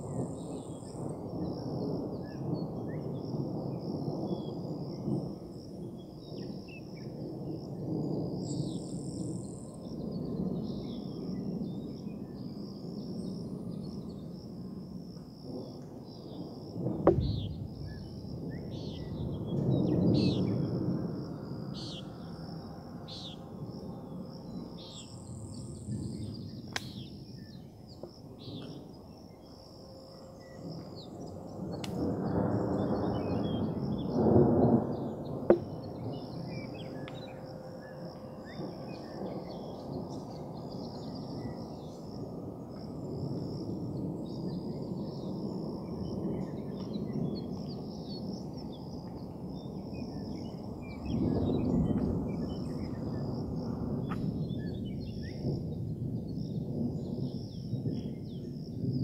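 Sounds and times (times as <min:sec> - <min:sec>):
distant thunder rumbling: 0:00.0 - 0:59.0
night insects chirping: 0:00.0 - 0:59.0.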